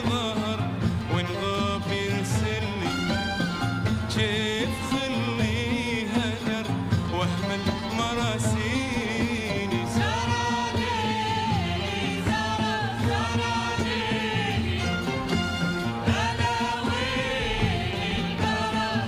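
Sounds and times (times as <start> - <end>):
instrumental accompaniment: 0.0 - 19.0
person singing ornamented melody: 0.0 - 19.0.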